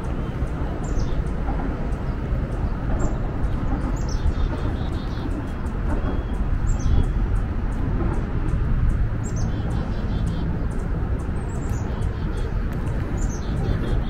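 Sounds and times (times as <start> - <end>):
small birds chirping: 0.0 - 7.8, 8.4 - 14.0
low city background rumble: 0.0 - 14.0.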